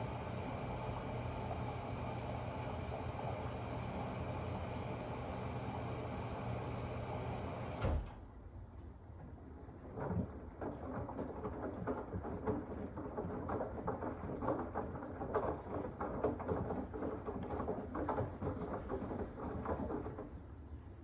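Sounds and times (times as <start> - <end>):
washing machine rattling and gurgling: 0.0 - 8.2, 9.0 - 20.7
washing machine low rumble: 0.0 - 21.0.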